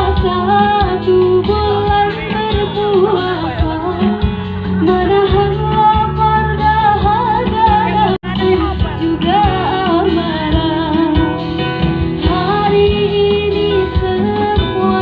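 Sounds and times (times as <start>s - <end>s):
steady bass: 0.0s - 15.0s
woman singing: 0.0s - 15.0s.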